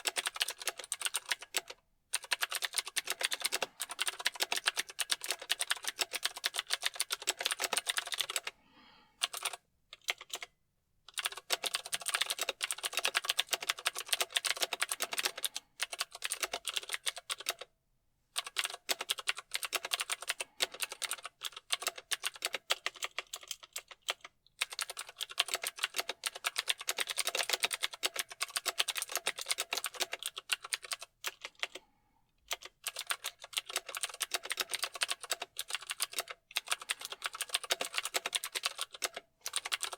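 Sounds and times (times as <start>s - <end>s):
mechanical keyboard typing: 0.0s - 8.5s, 9.2s - 10.5s, 11.1s - 17.7s, 18.4s - 31.8s, 32.5s - 39.9s.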